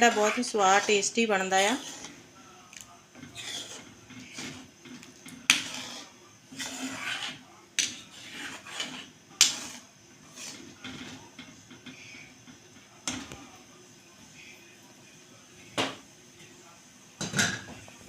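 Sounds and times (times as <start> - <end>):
spoon stirring batter in pan: 0.0 - 14.6.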